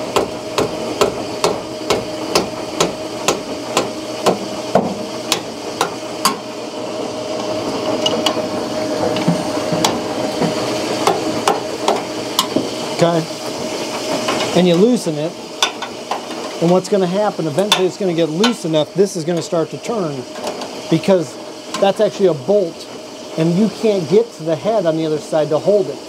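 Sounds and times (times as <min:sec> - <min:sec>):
laundry machine humming: 0:00.0 - 0:26.0.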